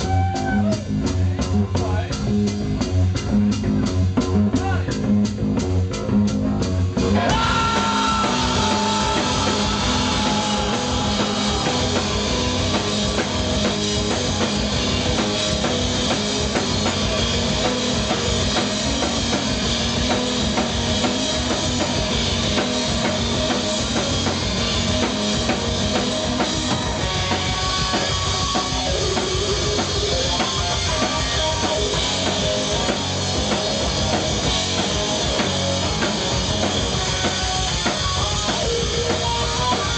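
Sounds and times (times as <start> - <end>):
bass guitar: 0.0 - 39.9
drum kit: 0.0 - 39.9
electric guitar: 5.2 - 39.9.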